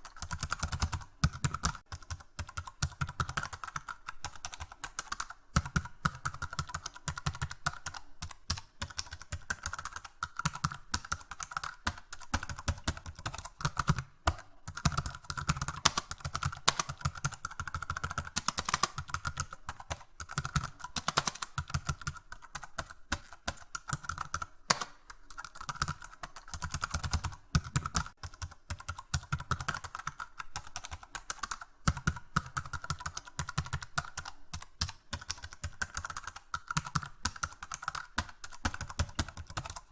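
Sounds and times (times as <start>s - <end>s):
typing on computer keyboard: 0.0s - 39.9s.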